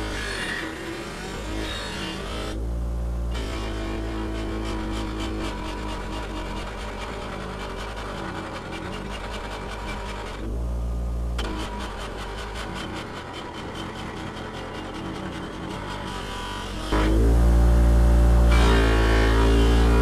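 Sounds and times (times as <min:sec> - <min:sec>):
bench grinder motor hum: 0:00.0 - 0:20.0.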